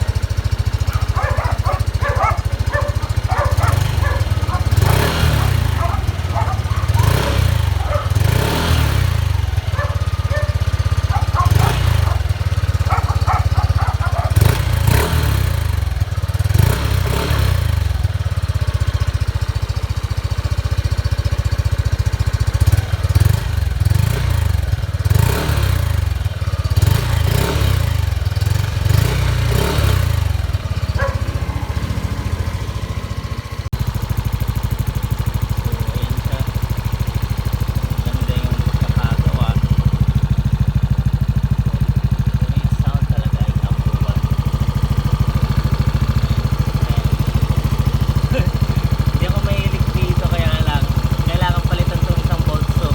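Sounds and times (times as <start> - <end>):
motorcycle engine exhaust surging: 0.0 - 52.9.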